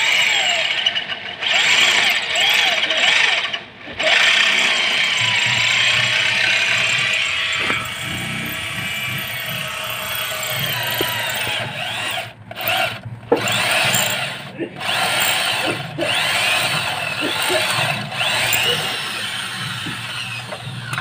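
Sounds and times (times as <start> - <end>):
power drill whirring: 0.0 - 21.0.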